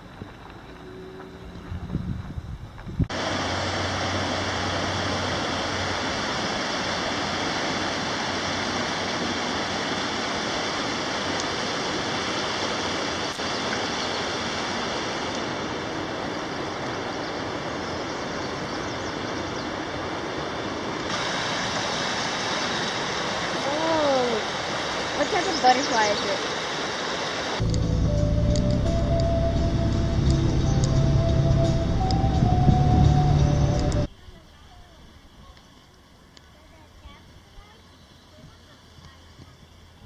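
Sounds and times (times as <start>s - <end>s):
running water rushing: 3.1s - 40.0s.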